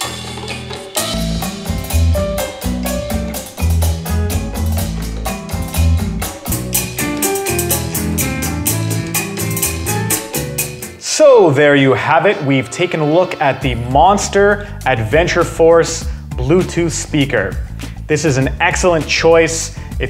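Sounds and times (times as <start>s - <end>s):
instrumental music with drums: 0.0s - 11.1s, 12.0s - 20.0s.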